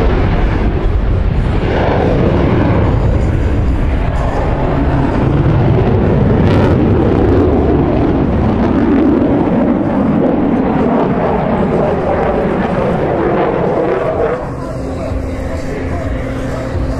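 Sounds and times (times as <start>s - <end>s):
loud jet engine noise: 0.0s - 16.9s.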